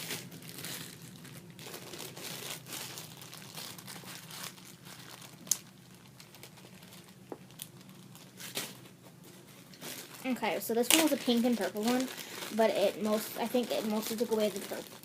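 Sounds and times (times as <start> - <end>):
slime crackling and squishing: 0.0 - 8.9, 9.7 - 15.0.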